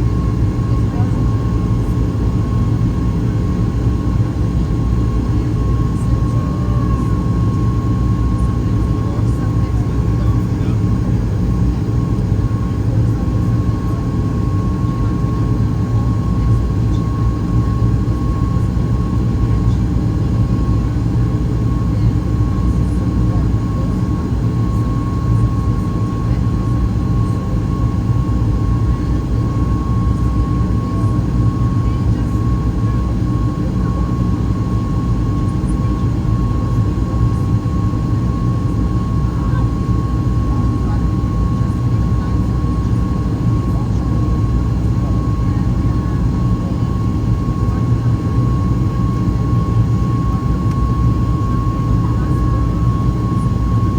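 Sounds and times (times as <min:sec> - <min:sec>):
engine and airflow rumble: 0:00.0 - 0:53.9.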